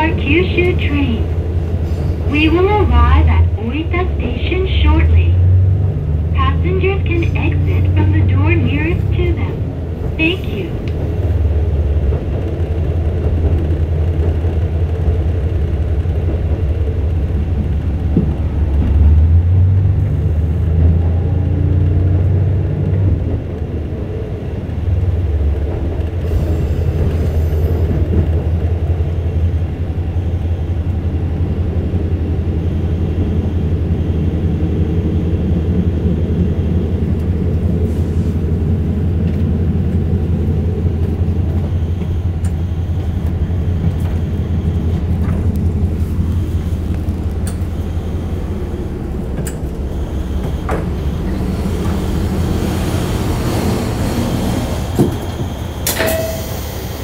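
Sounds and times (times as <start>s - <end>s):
railcar diesel engine drone: 0.0s - 57.0s.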